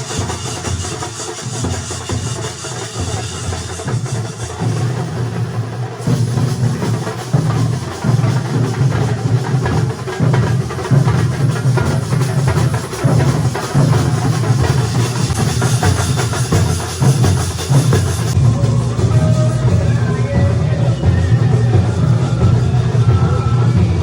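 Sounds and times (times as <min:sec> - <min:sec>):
percussion band drumming: 0:00.0 - 0:24.0
bass drum beats: 0:03.2 - 0:24.0.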